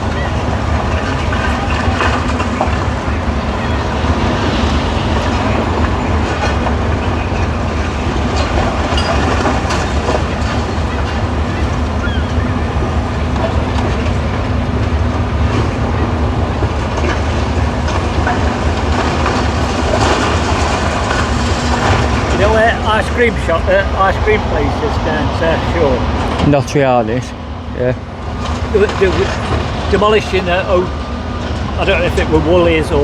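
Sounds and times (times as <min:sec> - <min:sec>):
heavy machinery engine rumble: 0:00.0 - 0:33.0.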